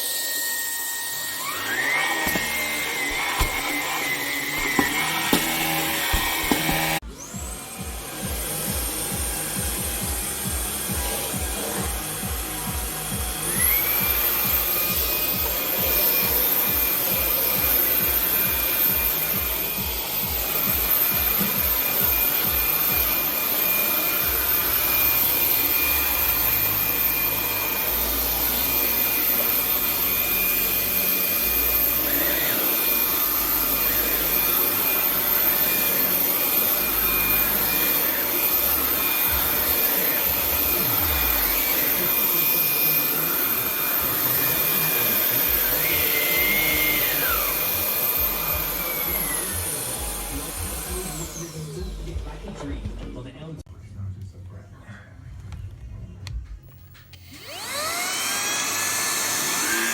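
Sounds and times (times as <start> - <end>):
vacuum cleaner motor whine: 0.0 - 53.2, 57.0 - 59.9.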